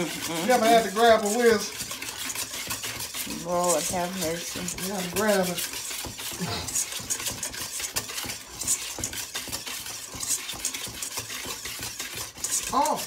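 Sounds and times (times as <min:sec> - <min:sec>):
utensil scraping and clicking in bowl: 0:00.0 - 0:13.0.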